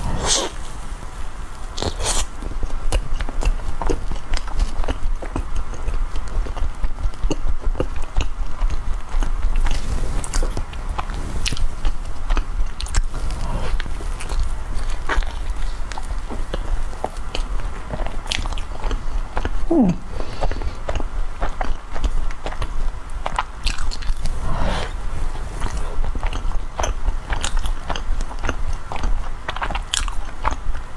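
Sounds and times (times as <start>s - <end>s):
person chewing with mouth clicks: 1.7s - 30.9s.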